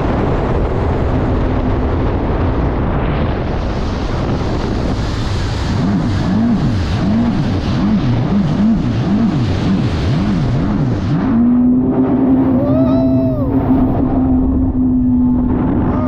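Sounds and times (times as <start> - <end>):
jet ski engine: 0.0 - 16.0
wind buffeting microphone: 0.0 - 16.0.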